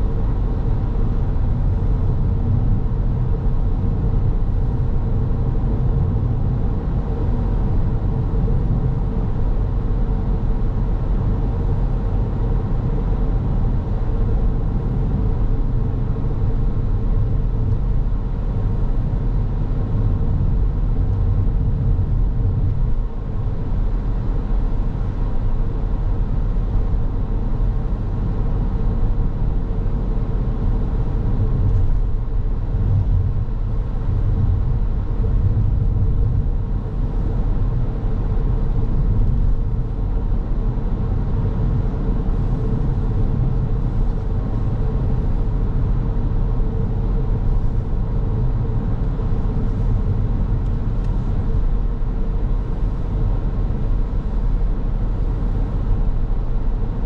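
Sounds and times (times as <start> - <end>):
car tyre and engine rumble: 0.0 - 57.0
constant hum: 0.0 - 57.0.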